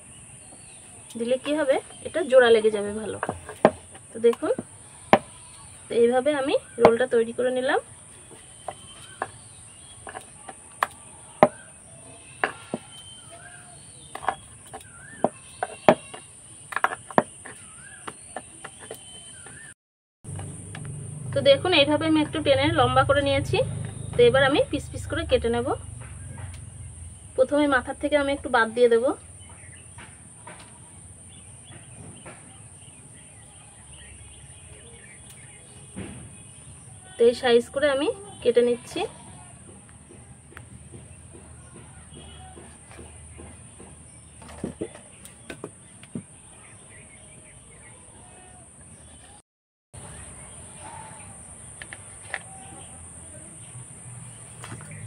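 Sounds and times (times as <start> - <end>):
small birds chirping: 0.0 - 20.7, 21.3 - 49.4, 50.0 - 55.0.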